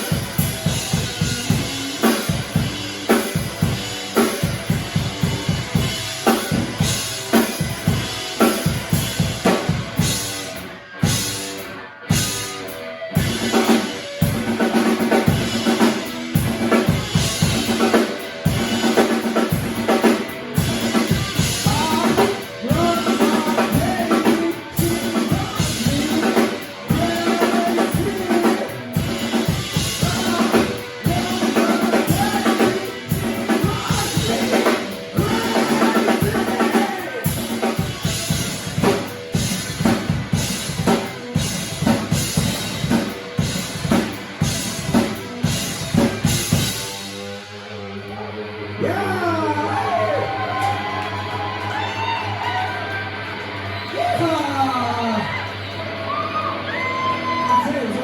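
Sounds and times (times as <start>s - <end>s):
band music: 0.0s - 58.0s.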